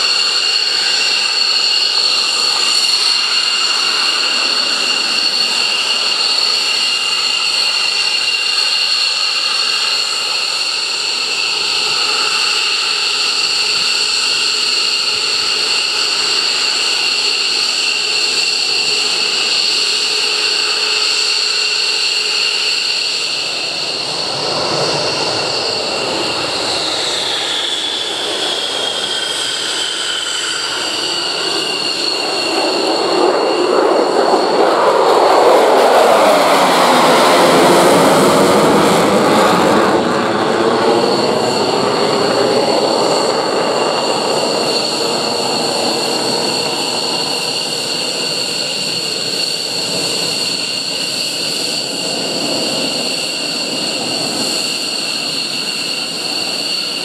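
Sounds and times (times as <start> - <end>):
jet engines idling whine: 0.0 - 57.0
rushing jet noise: 0.0 - 57.0.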